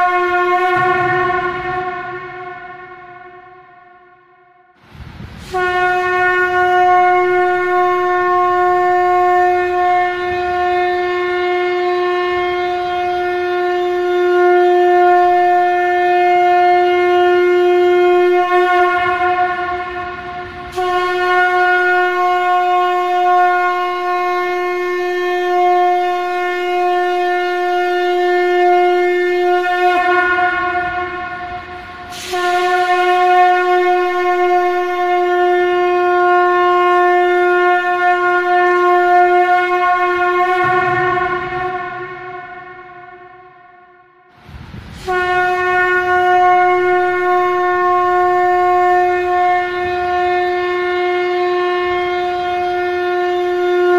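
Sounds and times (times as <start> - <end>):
conch shell blasts: 0.0 - 53.9.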